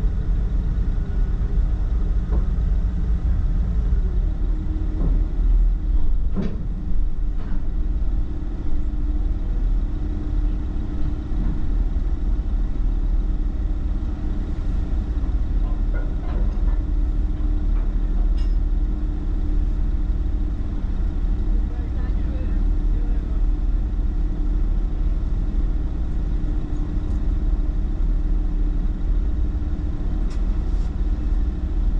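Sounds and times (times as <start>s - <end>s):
engine running low rumble: 0.0s - 31.9s.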